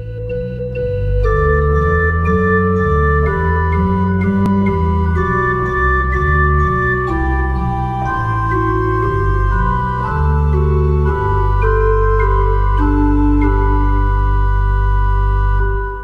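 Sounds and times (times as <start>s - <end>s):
long held deep bass note: 0.0s - 16.0s
sustained organ chords: 0.0s - 16.0s.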